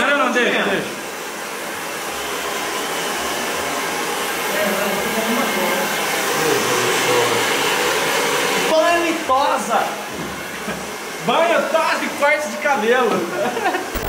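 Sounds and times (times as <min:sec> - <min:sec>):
hair dryer blowing: 0:00.1 - 0:14.0.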